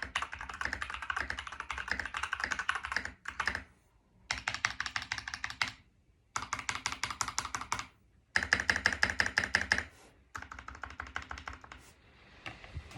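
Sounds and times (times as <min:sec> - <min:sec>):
mechanical keyboard typing: 0:00.0 - 0:03.6, 0:04.3 - 0:11.8.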